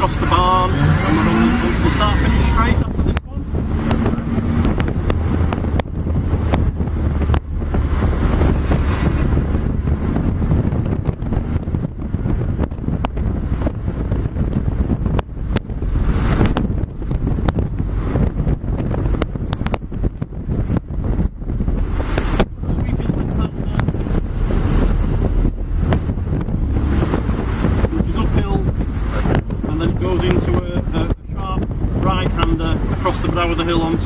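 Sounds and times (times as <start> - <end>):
car engine hum: 0.0 - 34.0
road rumble: 0.0 - 34.0
wind buffeting microphone: 0.0 - 34.0.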